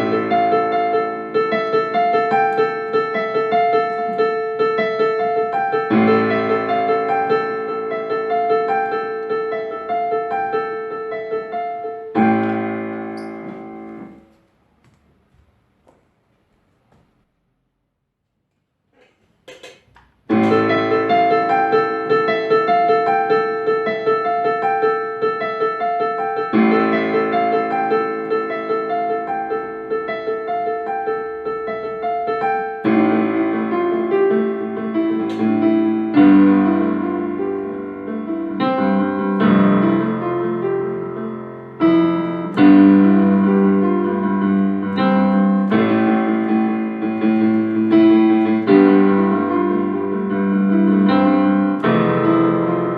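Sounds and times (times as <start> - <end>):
piano music: 0.0 - 14.4, 20.2 - 52.9.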